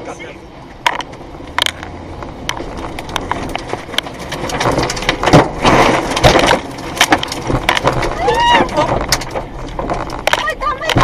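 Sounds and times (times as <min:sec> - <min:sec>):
rain: 0:00.0 - 0:11.0
rushing wind: 0:00.4 - 0:11.0
sharp knocks and cracks: 0:00.8 - 0:11.0.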